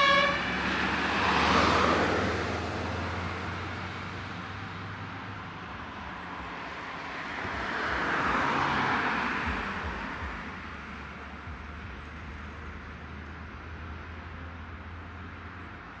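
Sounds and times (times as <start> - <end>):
low engine hum: 0.0 - 16.0
vehicle driving by: 0.0 - 16.0.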